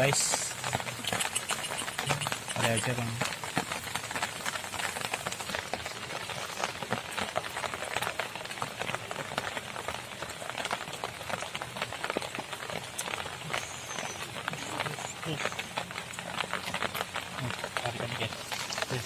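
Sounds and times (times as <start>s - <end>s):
light rain spatter: 0.0s - 19.0s.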